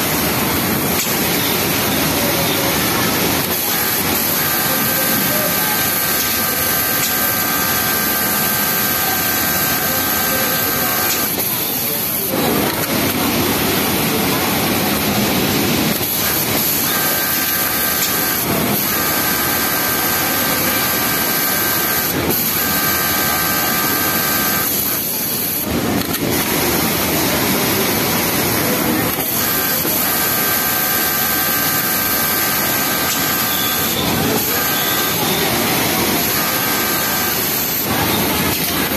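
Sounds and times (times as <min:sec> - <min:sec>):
loud machine din: 0:00.0 - 0:38.9
sewing machine whining: 0:00.4 - 0:14.0, 0:14.9 - 0:38.9.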